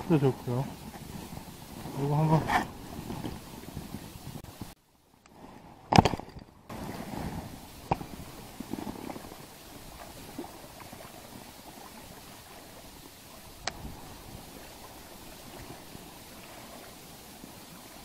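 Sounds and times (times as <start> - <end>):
sea water at the shore: 0.0 - 18.0
wind: 0.0 - 18.0.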